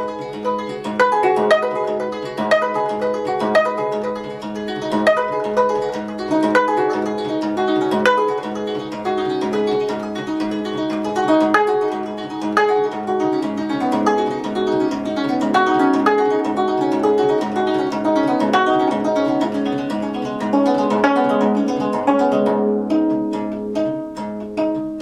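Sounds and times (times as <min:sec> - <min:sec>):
plucked zither melody: 0:00.0 - 0:25.0.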